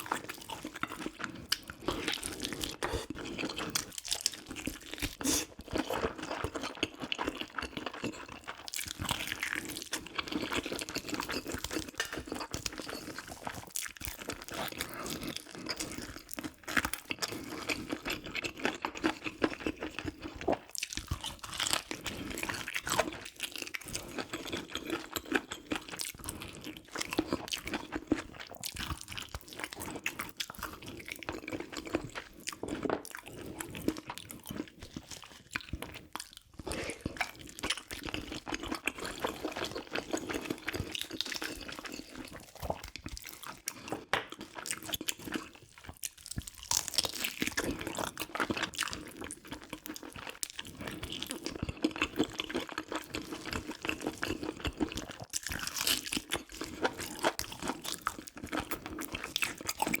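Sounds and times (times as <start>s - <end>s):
wet chewing and crunching: 0.0s - 60.0s.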